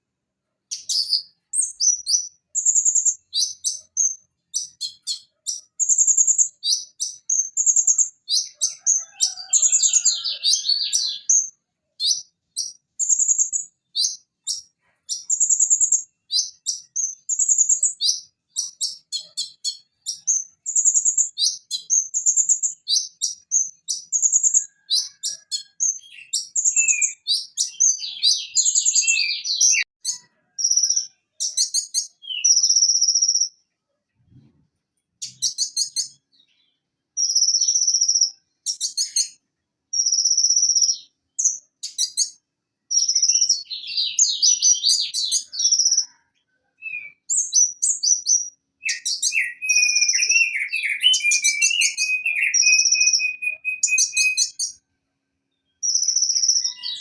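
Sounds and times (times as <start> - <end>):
sunbird chirping and trilling: 0.6 - 33.8, 35.2 - 54.8, 55.5 - 57.0.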